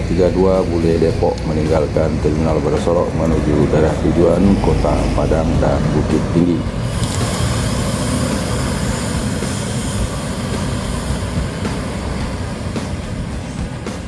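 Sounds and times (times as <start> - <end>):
bus air hiss: 0.0 - 14.0
bus engine rumbling: 0.0 - 14.0.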